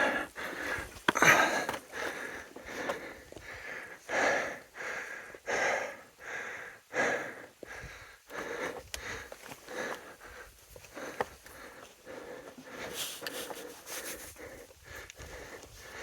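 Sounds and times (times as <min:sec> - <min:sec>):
heavy rhythmic breathing: 0:00.0 - 0:16.0.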